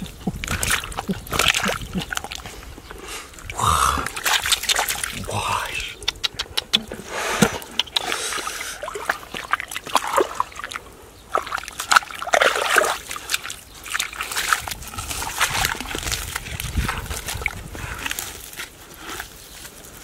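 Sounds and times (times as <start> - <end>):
hands splashing in mud and water: 0.0 - 2.8, 3.4 - 19.6.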